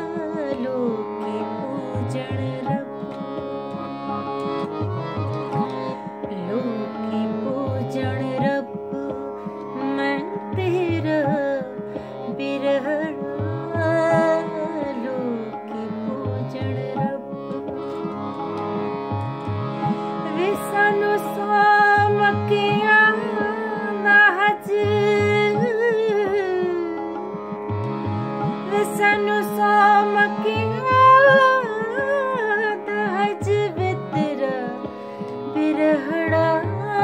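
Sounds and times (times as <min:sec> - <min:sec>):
woman singing: 0:00.0 - 0:03.2, 0:05.5 - 0:17.3, 0:20.2 - 0:27.2, 0:28.6 - 0:37.0
harmonium: 0:00.0 - 0:37.0
tabla rhythm: 0:00.0 - 0:37.0.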